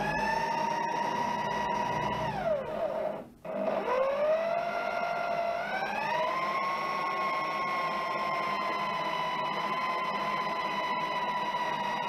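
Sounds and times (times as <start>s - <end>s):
electric drill motor whining: 0.0s - 12.0s.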